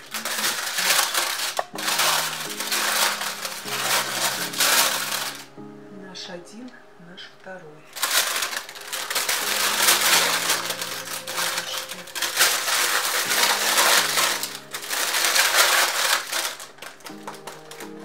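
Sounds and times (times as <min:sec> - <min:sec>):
baking parchment crinkling: 0:00.0 - 0:05.5, 0:07.9 - 0:18.0.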